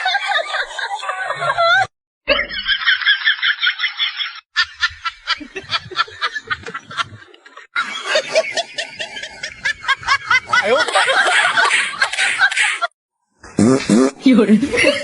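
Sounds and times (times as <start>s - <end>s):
rapid snickering laughter: 0.0s - 12.9s.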